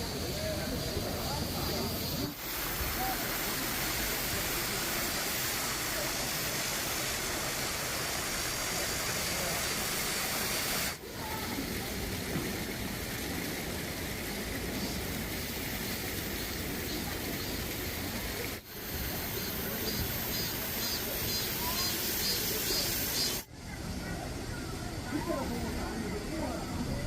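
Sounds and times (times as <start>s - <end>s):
stream water flowing: 0.1s - 23.5s.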